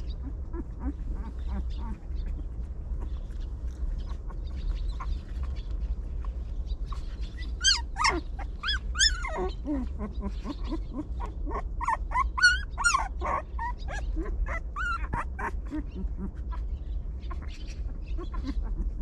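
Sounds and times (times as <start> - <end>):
puppies whining and yelping: 0.0 - 19.0
steady low hum: 0.0 - 19.0.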